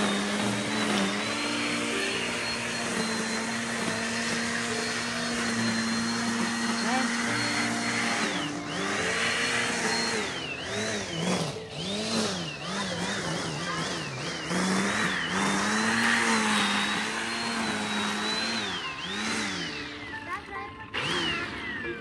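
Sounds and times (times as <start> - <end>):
string trimmer motor whine: 0.0 - 22.0.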